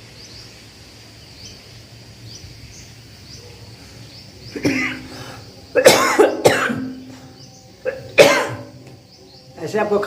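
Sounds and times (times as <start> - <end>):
bird chirps: 0.1 - 10.0.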